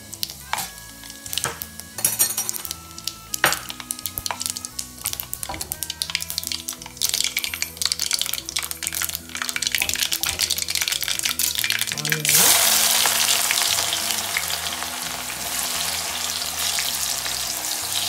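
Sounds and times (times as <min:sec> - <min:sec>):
seeds crackling in hot oil: 0:00.0 - 0:18.0
soft background music: 0:00.0 - 0:18.0.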